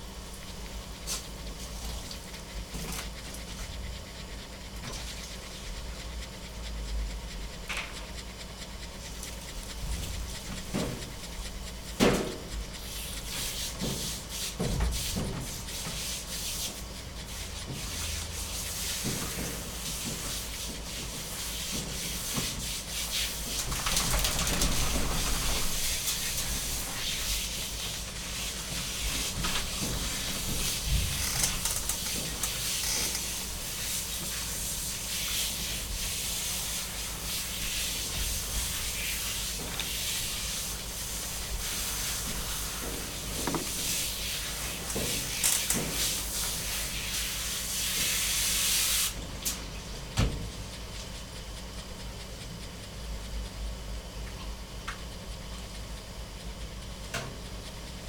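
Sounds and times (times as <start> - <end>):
dog panting: 0.1 - 58.0.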